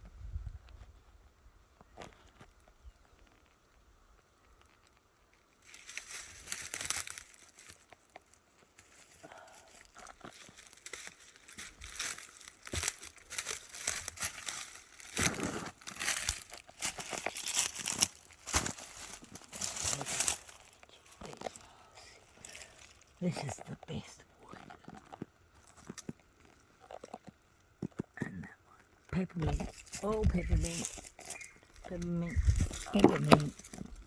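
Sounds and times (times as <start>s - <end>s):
twigs and leaves crunching: 4.4s - 34.0s.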